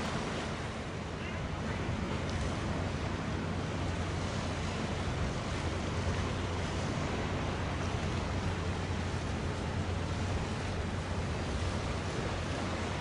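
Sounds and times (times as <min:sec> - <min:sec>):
constant low hum: 0:00.0 - 0:13.0
sea water: 0:00.0 - 0:13.0
wind: 0:00.0 - 0:13.0.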